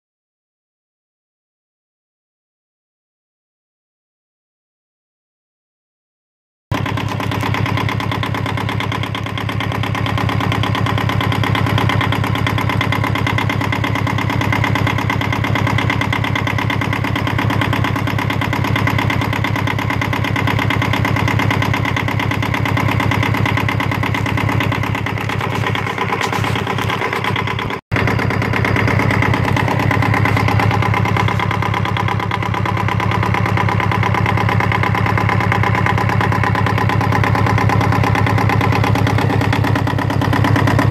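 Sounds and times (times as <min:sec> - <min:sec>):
diesel engine running: 0:06.7 - 0:40.9.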